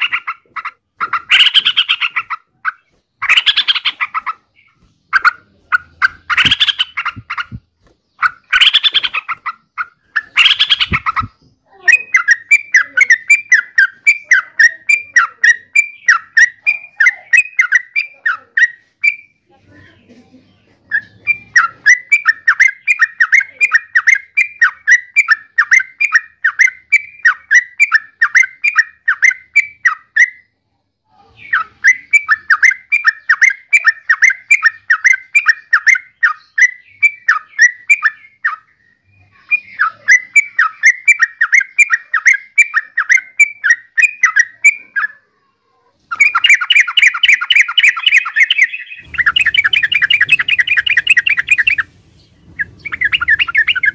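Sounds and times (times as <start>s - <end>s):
bird harsh calls: 0.0s - 30.6s, 31.2s - 53.9s
bird chattering: 0.0s - 45.3s, 46.0s - 53.9s.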